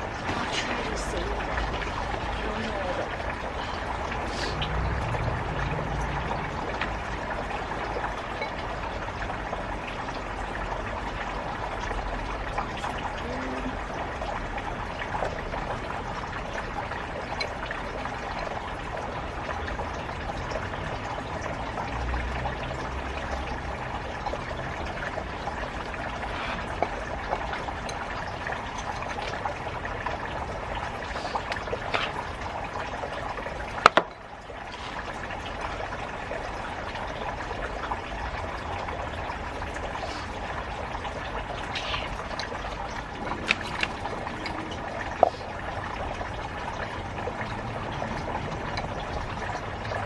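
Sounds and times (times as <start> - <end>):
water running and trickling: 0.0 - 50.0.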